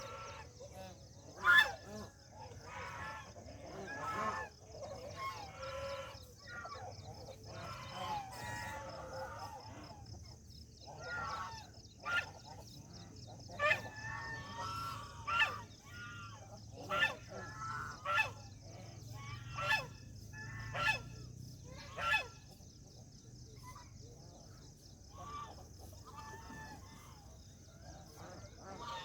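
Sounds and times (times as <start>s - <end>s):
geese honking: 0.0s - 6.8s, 7.4s - 9.9s, 10.9s - 12.7s, 13.5s - 29.0s.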